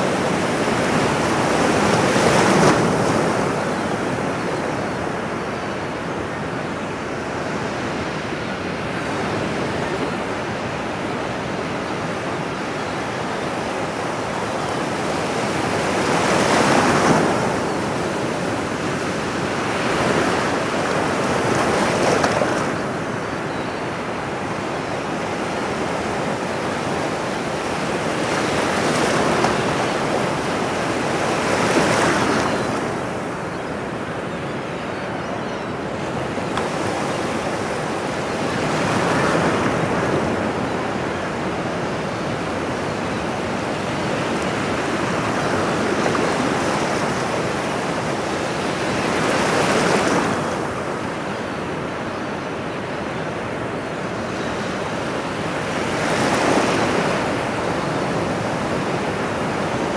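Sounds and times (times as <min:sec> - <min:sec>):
waves breaking on shore: 0:00.0 - 0:34.8, 0:35.8 - 0:59.9.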